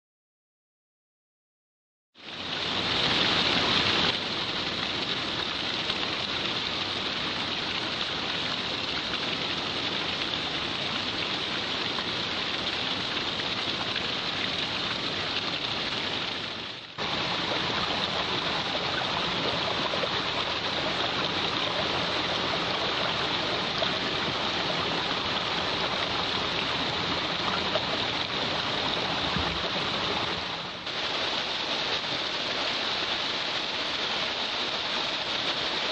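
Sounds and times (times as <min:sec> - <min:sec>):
waterfall and stream rushing: 0:02.2 - 0:35.9.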